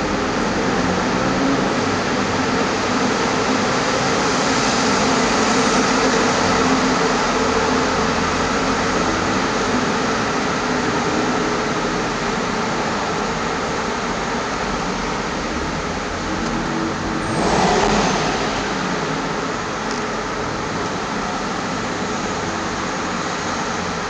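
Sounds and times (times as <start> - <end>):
cars driving through a tunnel: 0.0 - 24.0.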